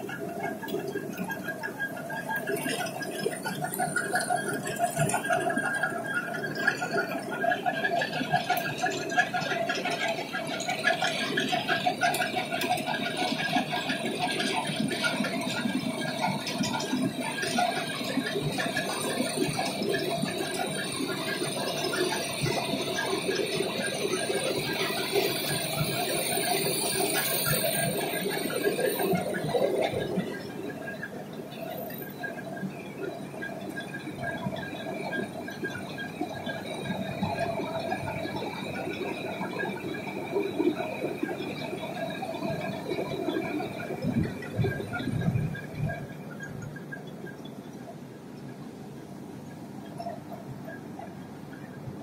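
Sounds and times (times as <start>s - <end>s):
machinery humming with whining tones: 0.0s - 52.0s.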